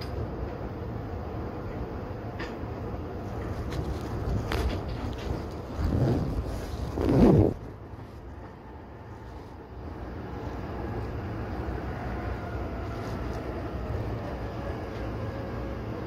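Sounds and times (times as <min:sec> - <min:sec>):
low hum inside train car: 0:00.0 - 0:16.0.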